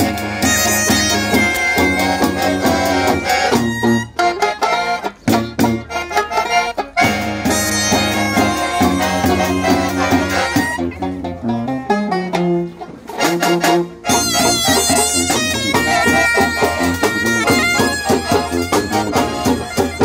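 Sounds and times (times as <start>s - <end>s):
clarinet lead: 0.0s - 12.2s, 13.1s - 20.0s
accordion: 0.0s - 20.0s
banjo: 0.0s - 20.0s
tuba bass: 0.0s - 20.0s.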